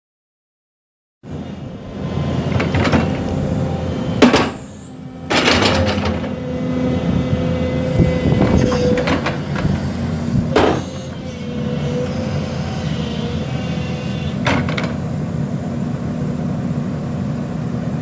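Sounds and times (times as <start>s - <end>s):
excavator diesel engine running: 1.3s - 18.0s.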